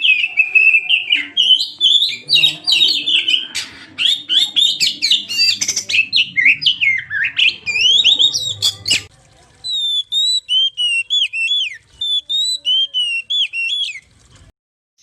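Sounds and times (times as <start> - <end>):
bird singing whistles and chatter: 0.0 - 14.1.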